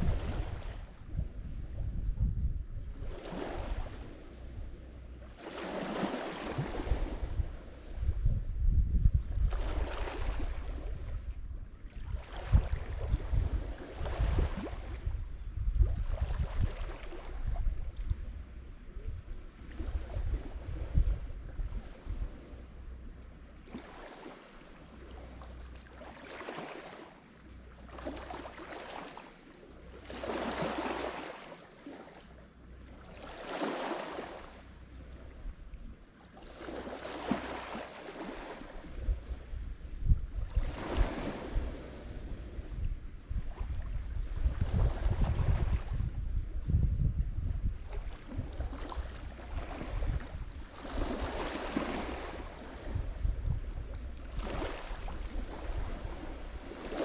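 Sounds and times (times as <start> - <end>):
waves breaking on shore: 0.0 - 1.2, 2.9 - 8.3, 9.2 - 15.2, 15.8 - 22.6, 23.5 - 35.4, 36.0 - 46.2, 47.7 - 57.0
wind rumble on microphone: 0.0 - 27.0, 32.2 - 57.0.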